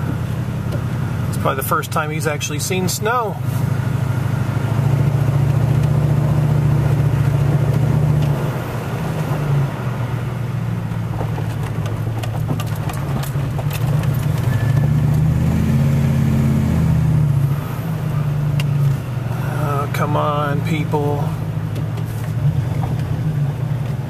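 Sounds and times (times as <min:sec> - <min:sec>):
car engine and cabin hum: 0:00.0 - 0:24.0.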